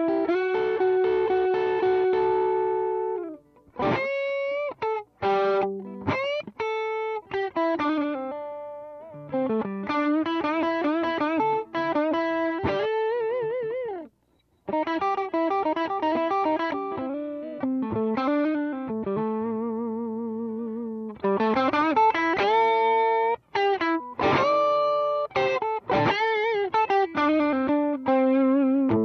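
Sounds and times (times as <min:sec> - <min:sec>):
overdriven electric guitar lead: 0:00.0 - 0:29.0.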